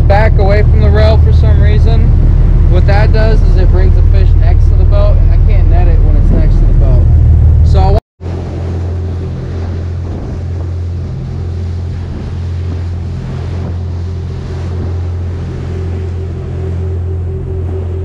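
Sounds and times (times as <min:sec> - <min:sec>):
boat engine humming: 0:00.0 - 0:18.0
wake rushing along hull: 0:00.0 - 0:18.0
wind on microphone: 0:00.0 - 0:18.0.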